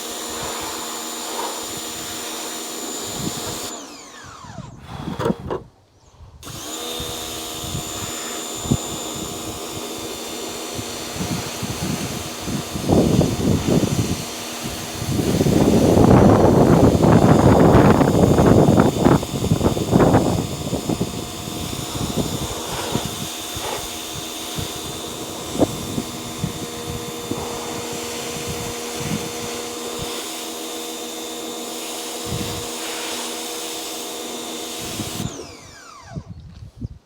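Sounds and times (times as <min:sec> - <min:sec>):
electric motor whining: 0:00.0 - 0:05.8, 0:06.4 - 0:36.6.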